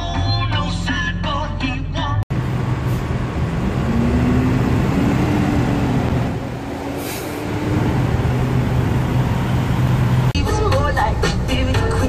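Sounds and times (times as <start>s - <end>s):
diesel truck engine idling: 2.3s - 12.0s.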